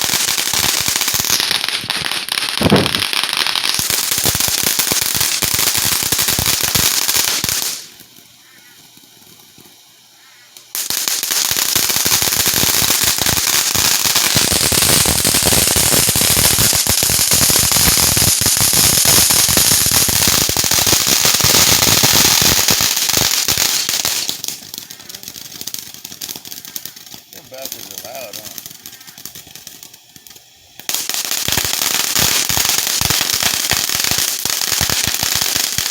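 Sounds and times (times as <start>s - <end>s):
fireworks rapid bangs and crackles: 0.0s - 10.0s, 10.6s - 35.9s.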